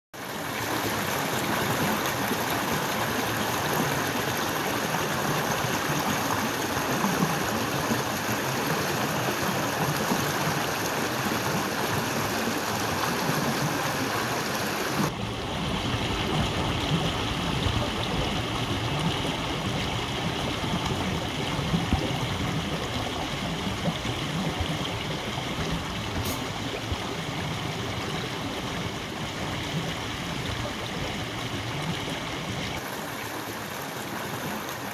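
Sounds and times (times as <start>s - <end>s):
stream rushing over cascades: 0.2s - 34.9s.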